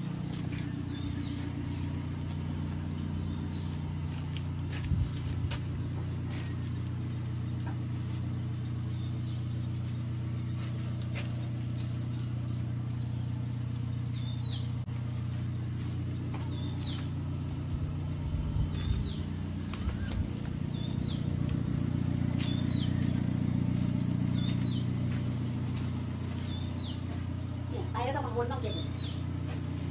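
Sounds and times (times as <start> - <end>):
birds chirping: 0.0 - 29.9
tractor diesel engine idling: 0.0 - 29.9.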